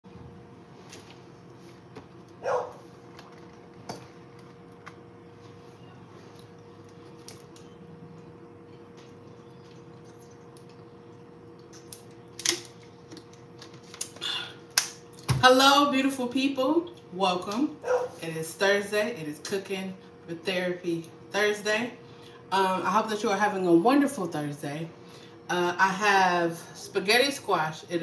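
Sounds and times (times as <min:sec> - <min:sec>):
faint room hum: 0:00.1 - 0:28.0.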